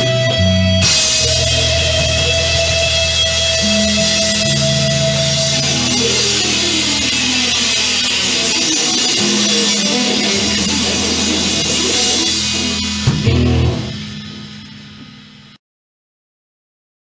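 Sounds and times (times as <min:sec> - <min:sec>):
blues-rock band playing: 0:00.0 - 0:15.2.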